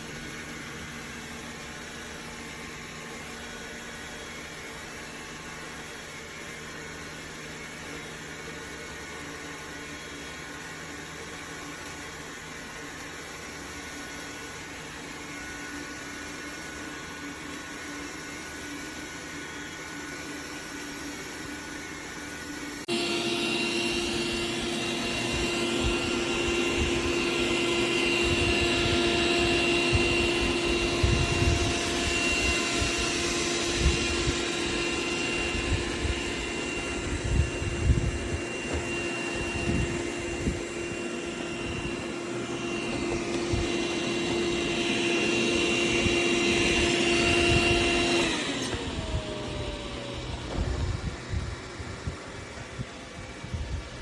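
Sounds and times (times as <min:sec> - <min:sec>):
vacuum motor whining: 0:00.0 - 0:54.0.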